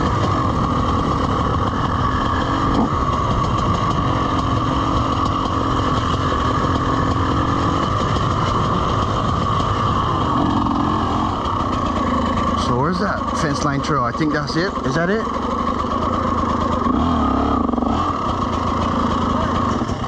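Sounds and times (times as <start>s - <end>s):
two-stroke dirt bike engine: 0.0s - 20.0s.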